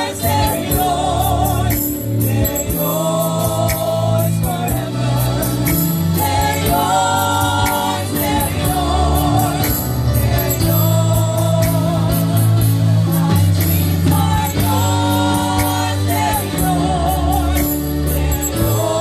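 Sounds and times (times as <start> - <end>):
bass notes: 0.0 - 19.0
gospel singing: 0.0 - 19.0.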